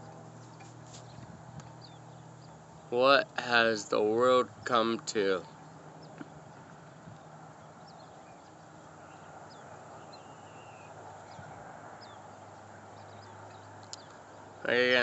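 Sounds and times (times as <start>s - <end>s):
outdoor background hiss: 0.0s - 15.0s
small birds chirping: 0.0s - 15.0s.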